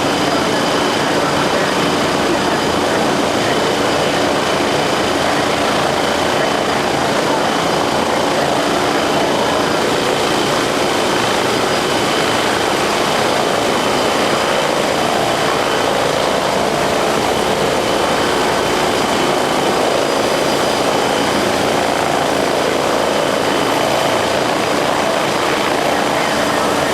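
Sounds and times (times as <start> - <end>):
helicopter running: 0.0 - 26.9.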